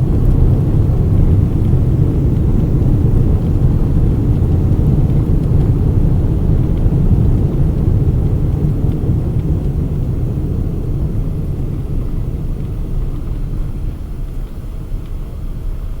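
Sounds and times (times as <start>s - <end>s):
airliner rumble on the ground: 0.0s - 16.0s.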